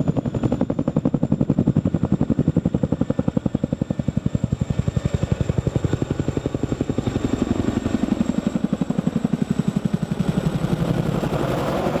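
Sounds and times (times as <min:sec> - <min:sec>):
helicopter high whine: 0:00.0 - 0:12.0.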